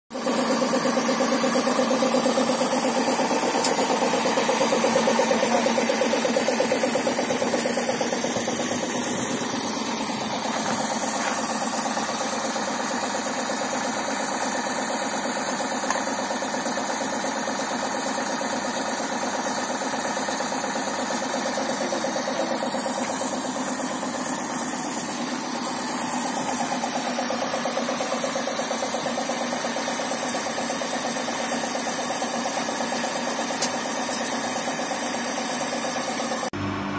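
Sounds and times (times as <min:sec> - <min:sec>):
stationary engine running: 0:00.1 - 0:36.9.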